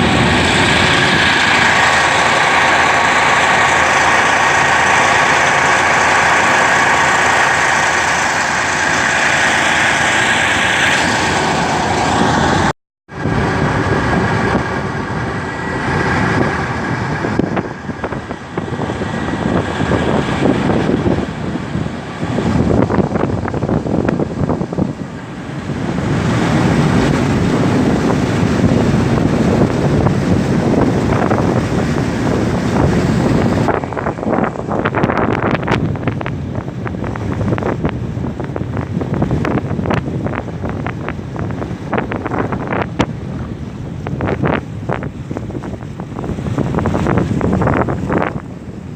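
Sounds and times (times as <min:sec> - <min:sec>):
motorboat engine running: 0:00.0 - 0:48.9
wind buffeting microphone: 0:00.0 - 0:48.9.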